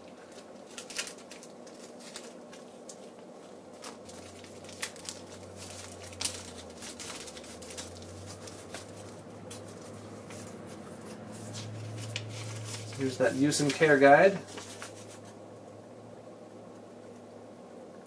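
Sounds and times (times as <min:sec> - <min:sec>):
plastic bag crinkling: 0:00.0 - 0:15.3.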